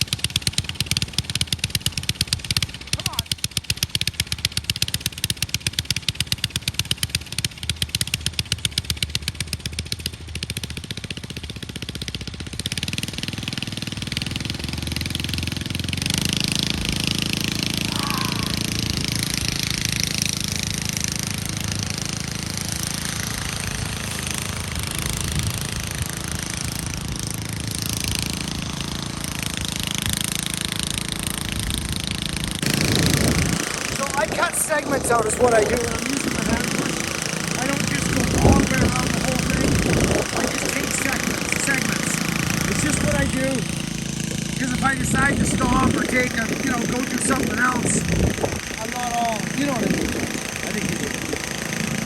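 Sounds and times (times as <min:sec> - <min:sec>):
small motor-driven machine running: 0:00.0 - 0:52.0.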